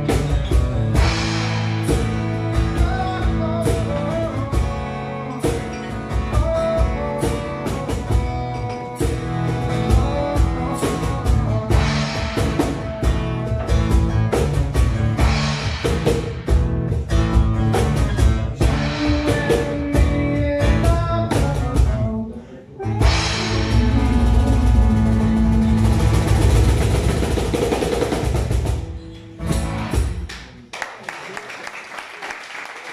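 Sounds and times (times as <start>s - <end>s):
acoustic guitar strumming: 0.0s - 30.3s.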